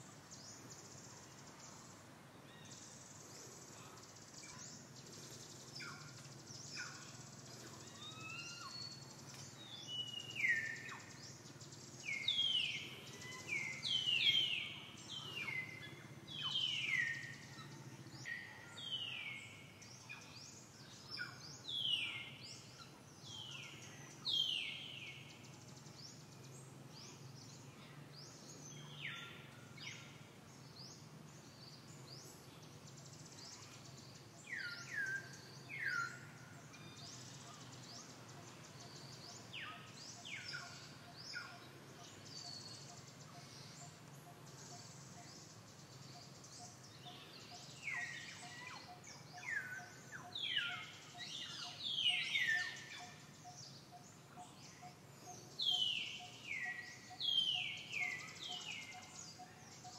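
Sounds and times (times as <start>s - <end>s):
birds chirping: 0.0s - 59.9s
faint steady hum: 0.0s - 59.9s.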